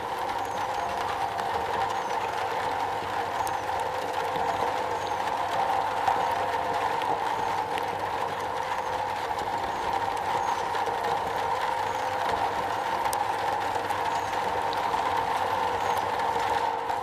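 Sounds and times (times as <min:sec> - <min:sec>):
rain drumming on a metal roof: 0:00.0 - 0:17.0.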